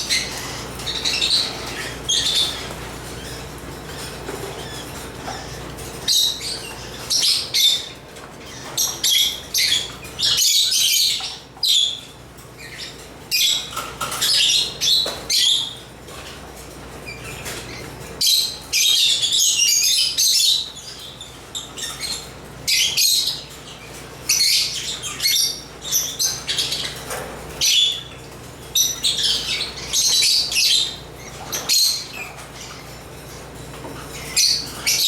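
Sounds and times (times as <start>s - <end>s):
lovebirds chirping: 0.0s - 16.4s, 17.0s - 35.0s.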